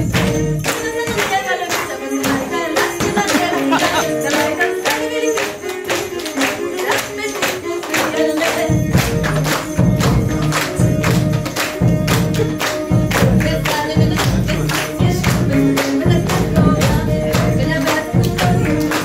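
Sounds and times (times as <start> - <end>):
driving percussion beat: 0.0 - 19.0
folk band playing polka: 0.0 - 19.0.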